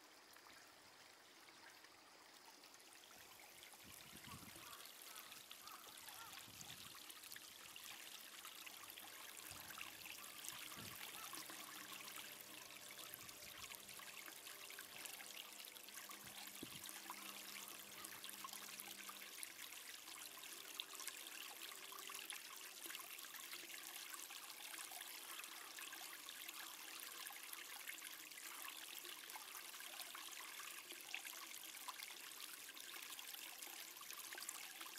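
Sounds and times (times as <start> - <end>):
faint outdoor hiss: 0.0 - 34.9.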